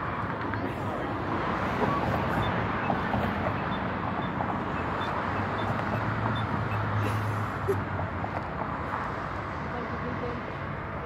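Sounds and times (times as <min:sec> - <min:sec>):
low engine hum: 0:00.0 - 0:11.0
traffic rumble: 0:00.0 - 0:11.0.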